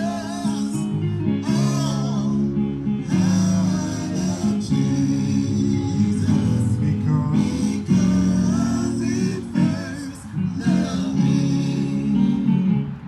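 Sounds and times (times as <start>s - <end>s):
strummed guitar music: 0.0s - 13.0s.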